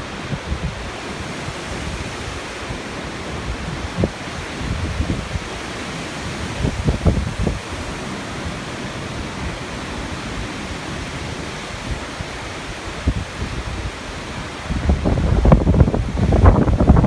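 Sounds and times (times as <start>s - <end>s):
wind buffeting microphone: 0.0s - 8.6s, 9.2s - 17.0s
gusty wind hissing: 0.0s - 17.0s.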